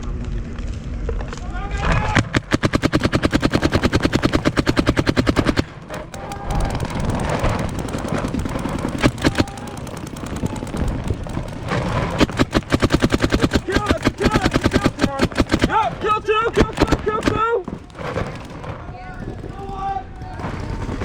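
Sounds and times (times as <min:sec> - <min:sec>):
toy blaster firing: 0:02.1 - 0:21.0.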